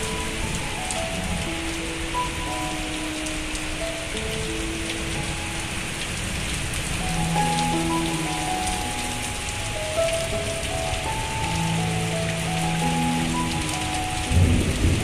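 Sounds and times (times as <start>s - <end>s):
heavy rain on standing water: 0.0s - 15.0s
soft melody of held notes: 0.0s - 15.0s.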